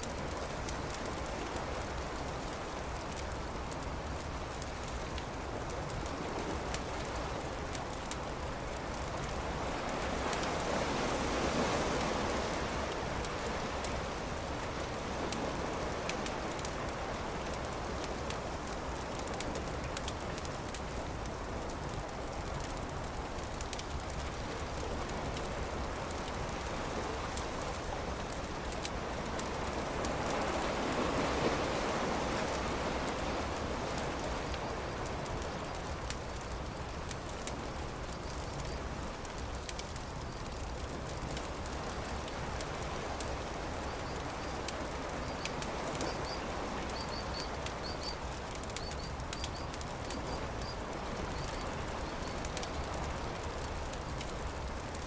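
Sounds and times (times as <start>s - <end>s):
campfire crackling: 0.0s - 55.0s
ocean surf: 0.0s - 55.0s.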